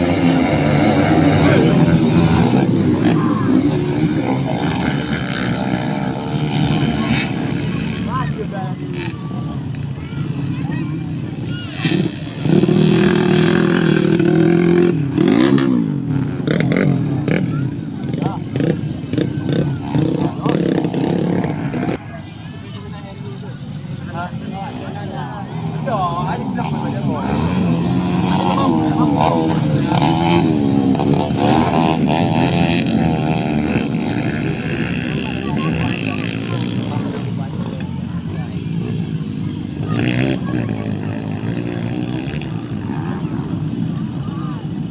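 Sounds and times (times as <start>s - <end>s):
motocross bike engine revving: 0.0s - 22.1s, 24.2s - 44.9s.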